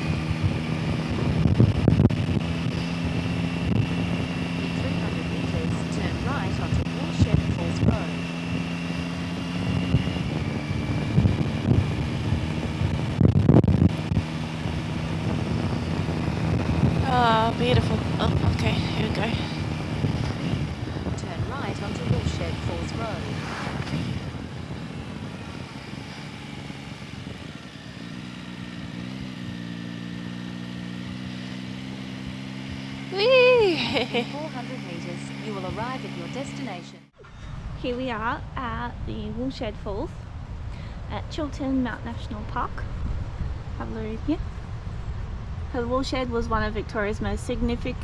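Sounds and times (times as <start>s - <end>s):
motorcycle engine cruising: 0.0s - 48.0s
wind rushing over microphone: 0.0s - 48.0s.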